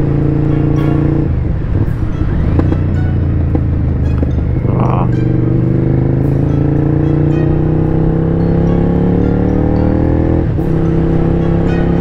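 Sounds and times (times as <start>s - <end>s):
motorcycle engine while riding: 0.0s - 12.0s.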